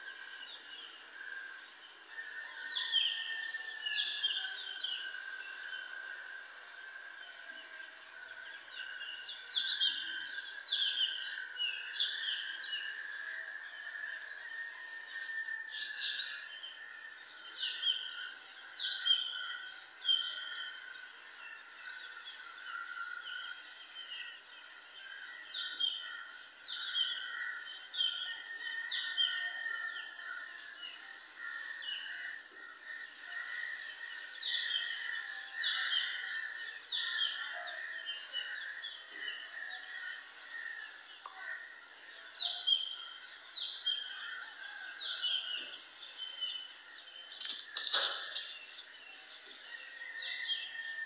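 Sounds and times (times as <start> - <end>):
birds twittering: 8.7 - 24.4, 25.0 - 51.0.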